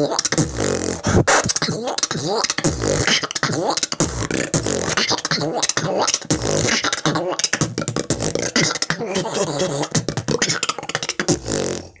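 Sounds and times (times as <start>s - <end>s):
beatboxing: 0.0s - 12.0s.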